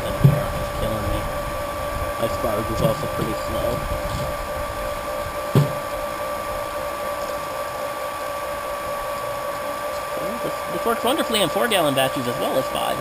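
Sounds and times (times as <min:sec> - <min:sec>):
electric pump whining: 0:00.0 - 0:13.0.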